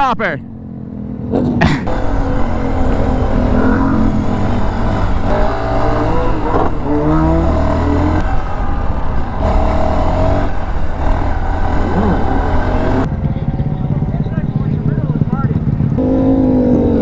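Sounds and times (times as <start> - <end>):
vehicle engines revving: 0.0 - 17.0.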